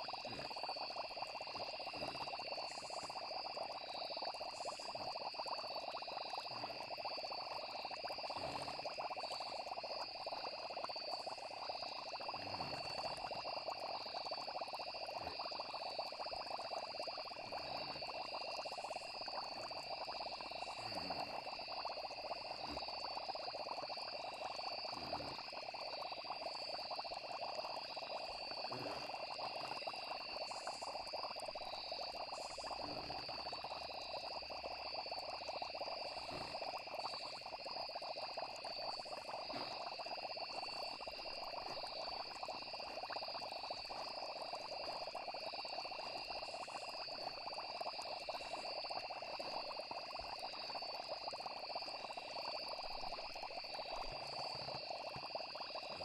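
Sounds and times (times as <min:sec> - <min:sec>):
frogs chorus: 0:00.0 - 0:56.0
insects trilling: 0:00.0 - 0:56.0.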